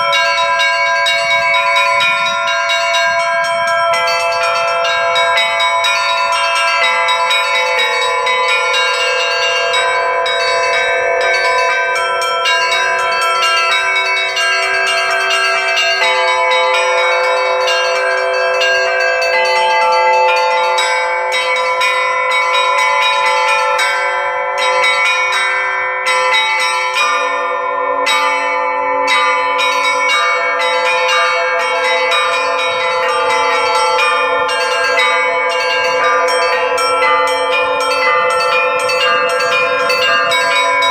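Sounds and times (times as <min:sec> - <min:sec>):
church bells pealing: 0:00.0 - 0:40.9
deep bell ringing: 0:00.0 - 0:40.9
small treble bells struck rapidly: 0:00.0 - 0:40.9.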